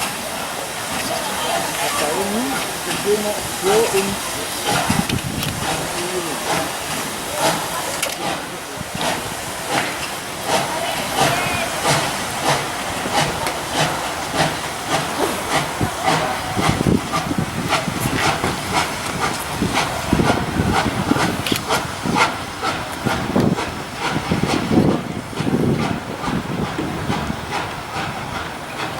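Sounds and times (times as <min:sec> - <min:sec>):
steam hissing: 0:00.0 - 0:28.9
steam locomotive exhaust beats: 0:00.0 - 0:28.9.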